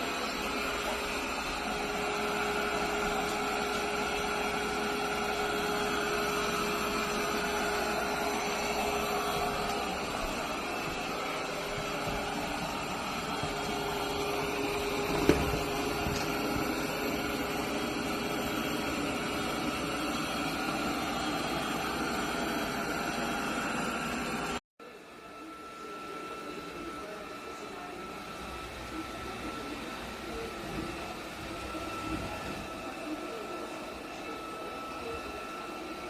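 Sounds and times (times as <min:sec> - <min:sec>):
robot vacuum running: 0:00.0 - 0:24.6, 0:25.2 - 0:36.0.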